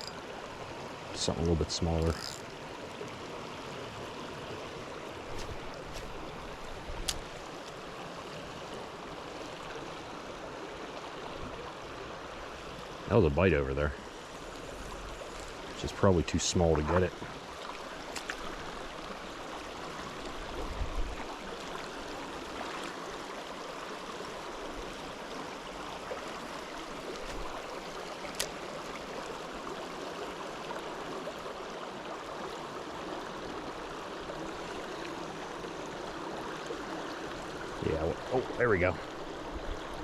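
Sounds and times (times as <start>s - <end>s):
river water rushing: 0.0s - 13.2s, 17.3s - 40.0s.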